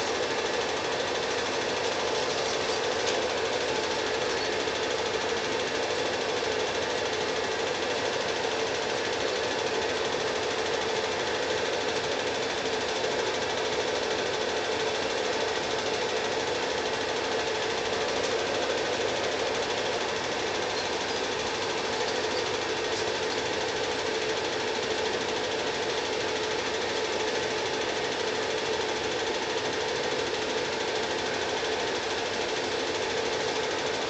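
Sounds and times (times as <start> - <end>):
film projector clatter: 0.0 - 34.0.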